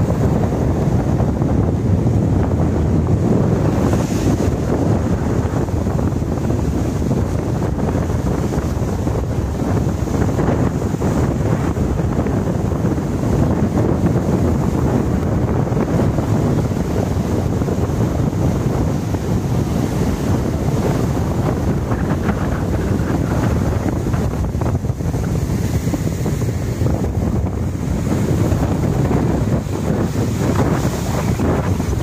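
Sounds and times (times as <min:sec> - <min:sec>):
surf breaking against seawall: 0:00.0 - 0:32.0
wind buffeting microphone: 0:00.0 - 0:32.0.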